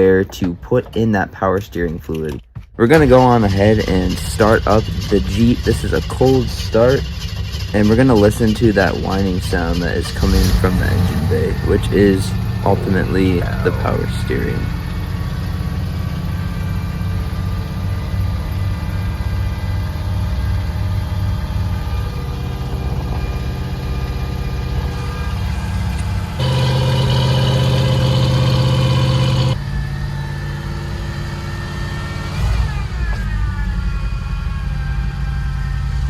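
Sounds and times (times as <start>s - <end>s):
power steering whine: 0.0s - 36.0s
engine idling: 1.8s - 36.0s.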